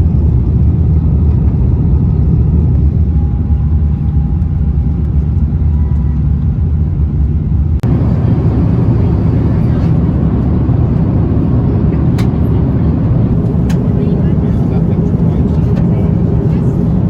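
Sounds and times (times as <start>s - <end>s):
jet engine cabin rumble: 0.0s - 17.0s.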